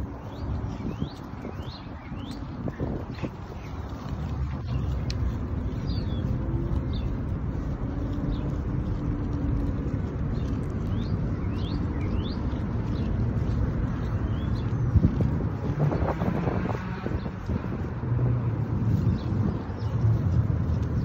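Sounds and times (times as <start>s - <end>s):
low outdoor rumble: 0.0s - 21.0s
small birds chirping: 0.0s - 21.0s.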